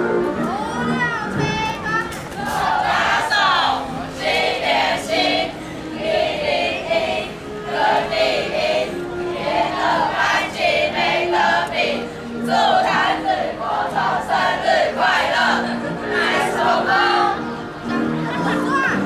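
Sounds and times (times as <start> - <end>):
music track with held notes: 0.0 - 19.0
children singing together: 1.5 - 18.1.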